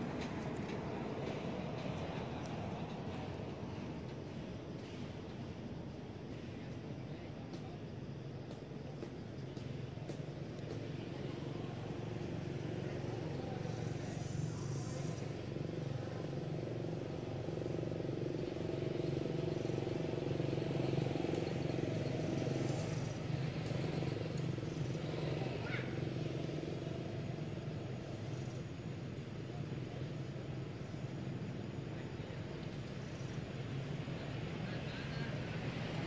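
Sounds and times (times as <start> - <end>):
vehicle engine humming: 0.0 - 6.3, 8.4 - 36.0.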